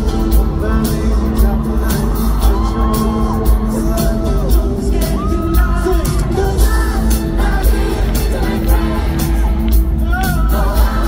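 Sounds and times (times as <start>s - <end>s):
loud live pop music: 0.0s - 11.0s
person singing: 0.0s - 11.0s.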